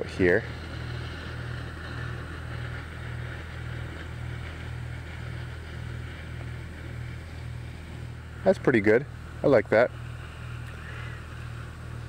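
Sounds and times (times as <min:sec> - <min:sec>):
pulsing engine drone: 0:00.0 - 0:12.0.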